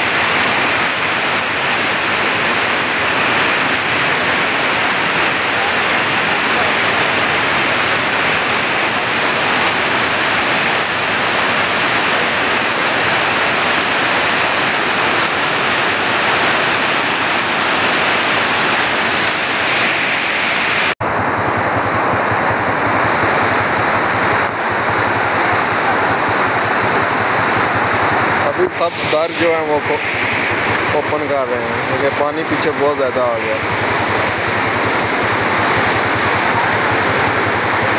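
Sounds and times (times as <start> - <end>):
floodwater rushing: 0.0 - 37.9.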